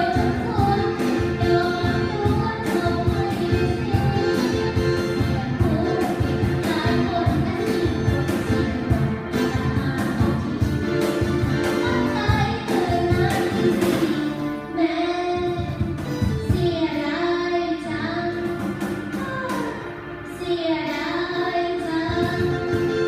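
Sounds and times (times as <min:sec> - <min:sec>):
drums: 0:00.0 - 0:14.5, 0:15.4 - 0:17.2, 0:18.0 - 0:20.3, 0:21.9 - 0:23.0
person singing: 0:00.0 - 0:15.8, 0:16.5 - 0:23.0
held keyboard chords: 0:00.0 - 0:23.0.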